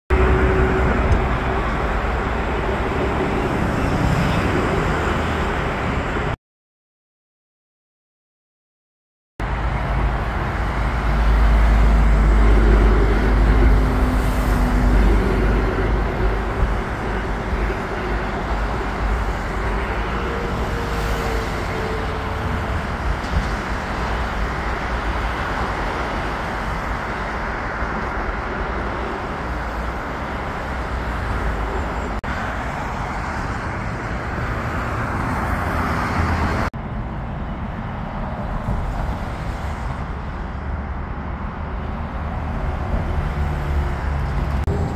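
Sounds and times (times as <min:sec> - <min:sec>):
city road traffic hum: 0:00.1 - 0:06.4, 0:09.4 - 0:44.9.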